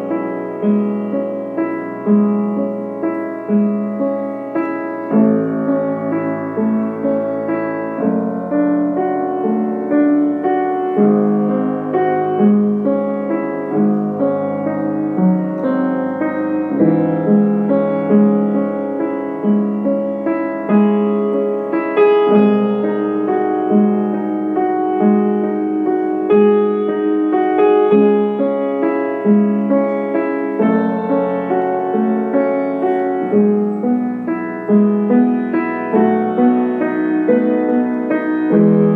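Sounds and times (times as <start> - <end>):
slow gentle piano piece: 0.0 - 38.9.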